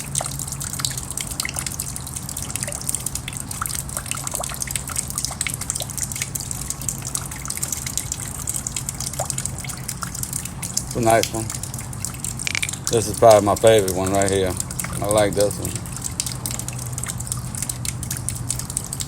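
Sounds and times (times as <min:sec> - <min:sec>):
low steady hum: 0:00.0 - 0:19.0
rainwater dripping and trickling: 0:00.0 - 0:19.0.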